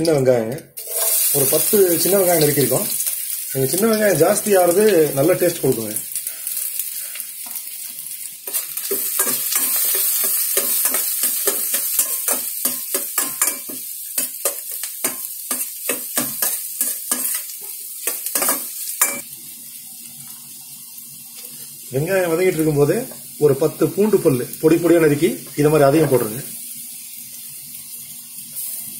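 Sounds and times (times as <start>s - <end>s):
food sizzling in hot oil: 0.7s - 28.9s.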